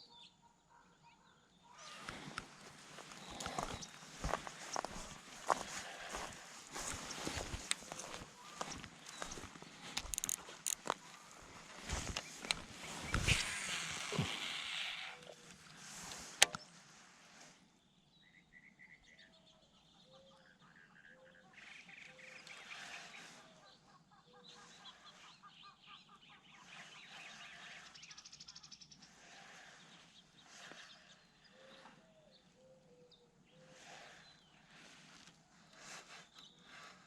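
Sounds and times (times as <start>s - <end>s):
faint bird calls and chirps: 0.0s - 37.0s.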